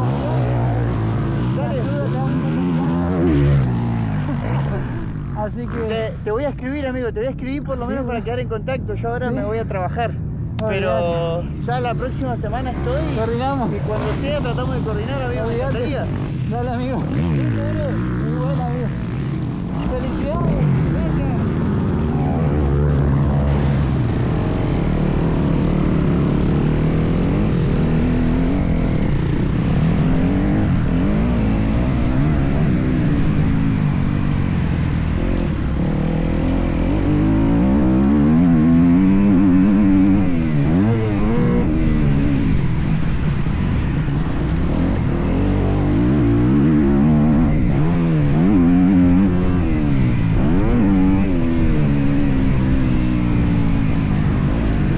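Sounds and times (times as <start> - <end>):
motocross bike engine revving: 0.0 - 6.2, 11.6 - 54.9.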